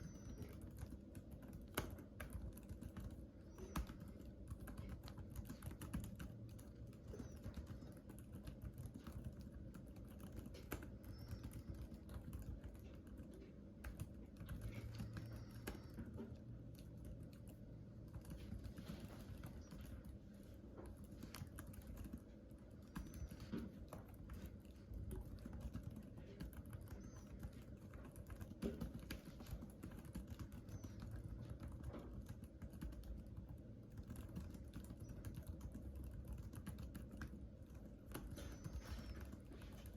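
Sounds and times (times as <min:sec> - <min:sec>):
typing on keyboard: 0:00.0 - 0:39.9.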